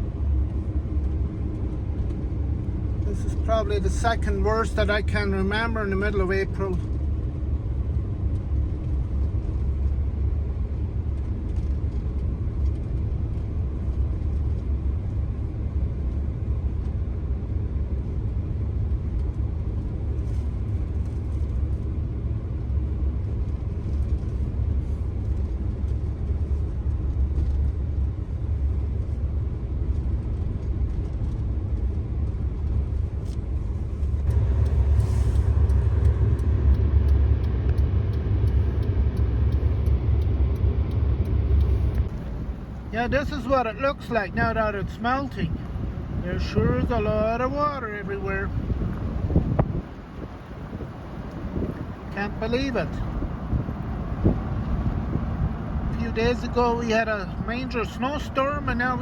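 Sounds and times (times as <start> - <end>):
car driving low rumble: 0.0 - 59.0.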